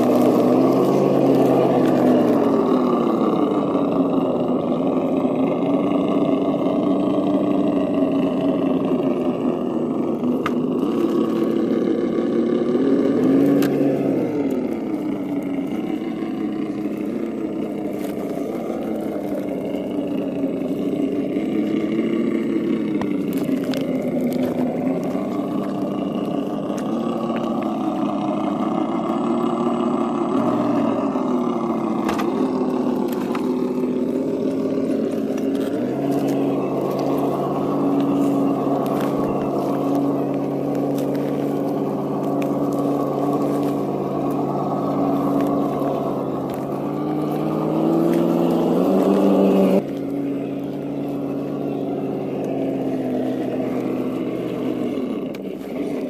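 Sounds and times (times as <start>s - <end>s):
simulated truck engine revving: 0.0s - 56.0s.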